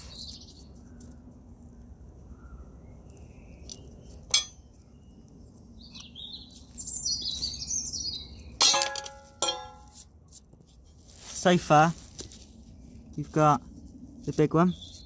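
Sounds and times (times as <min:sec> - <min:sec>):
songbird singing: 0:00.0 - 0:09.9, 0:12.4 - 0:15.0.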